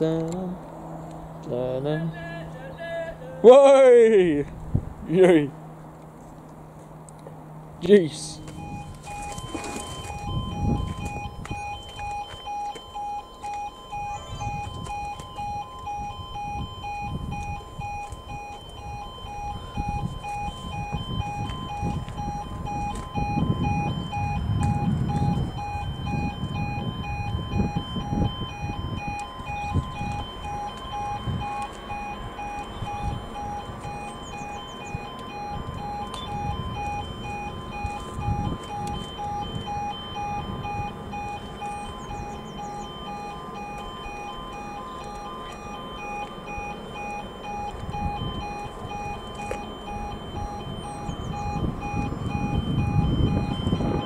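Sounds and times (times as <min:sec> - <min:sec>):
low gusty rumble: 0:00.0 - 0:54.0
level crossing alarm warbling: 0:07.8 - 0:54.0.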